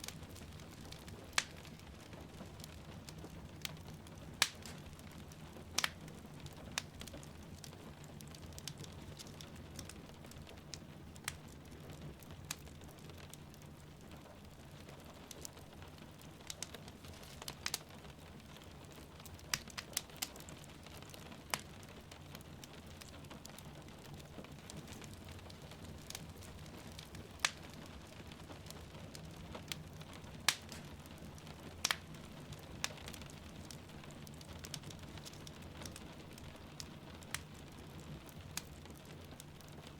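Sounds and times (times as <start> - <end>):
rain falling outside: 0.0 - 39.9
wood fire crackling: 0.0 - 39.9.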